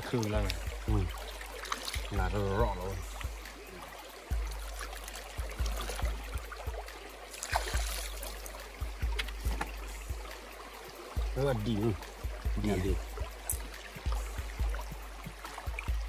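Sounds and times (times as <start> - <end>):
water running: 0.0 - 16.0.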